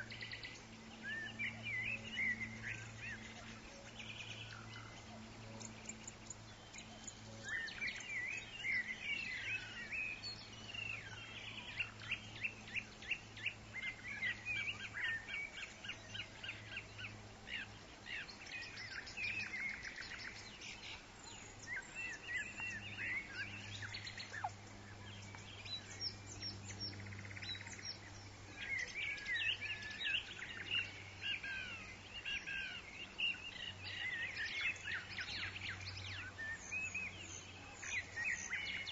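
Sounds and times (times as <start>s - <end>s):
birds chirping and trilling: 0.0s - 38.9s
faint low hum: 0.0s - 38.9s.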